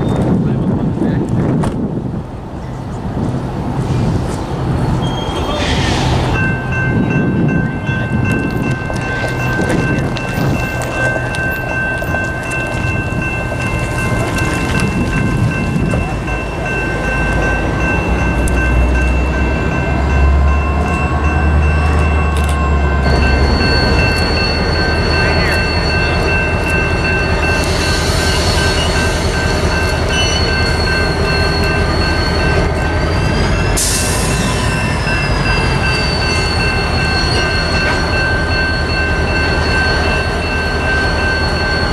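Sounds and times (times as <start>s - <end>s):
diesel locomotive rumbling past: 0.0s - 41.9s
steady high-pitched squeal: 4.3s - 41.9s.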